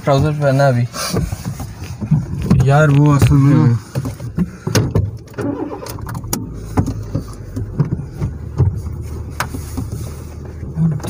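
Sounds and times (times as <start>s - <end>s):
clicks and knocks inside car: 0.0s - 5.4s, 6.0s - 11.0s
car engine rumbling: 0.0s - 11.0s.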